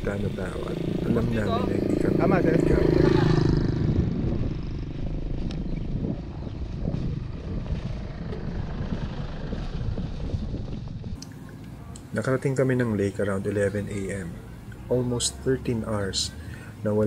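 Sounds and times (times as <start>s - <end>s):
tyres on dirt road: 0.0s - 17.0s
vehicle engine rumbling: 0.0s - 17.0s.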